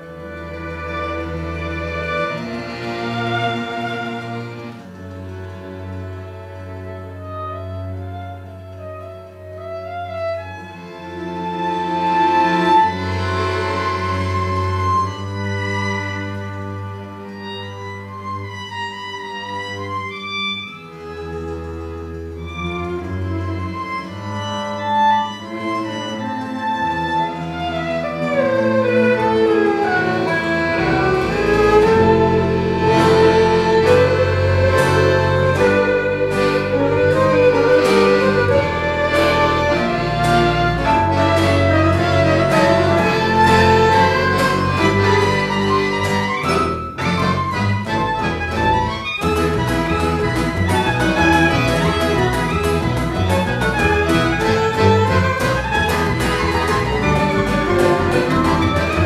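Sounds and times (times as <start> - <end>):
accordion: 0.0 - 59.0
plucked double bass: 0.0 - 59.0
violins: 0.0 - 59.0.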